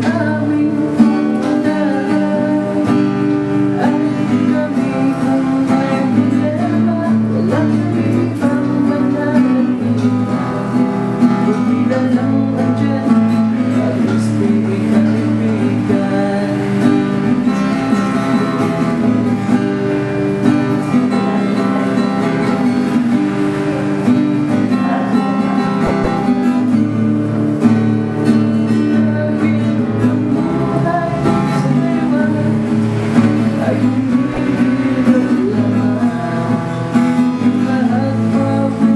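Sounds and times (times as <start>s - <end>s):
acoustic guitar music: 0.0s - 38.9s.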